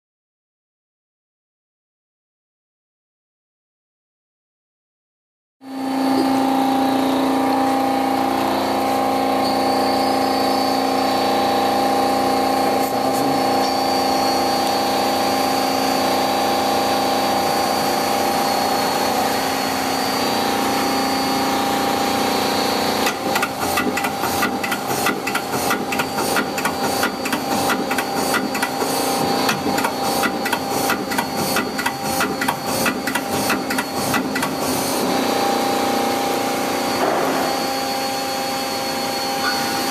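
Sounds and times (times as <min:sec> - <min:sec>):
lathe machine hum: 0:05.7 - 0:39.9.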